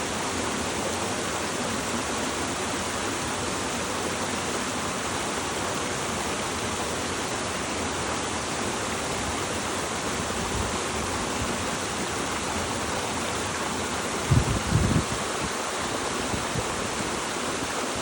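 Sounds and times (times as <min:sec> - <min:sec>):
running spring water: 0:00.0 - 0:18.0.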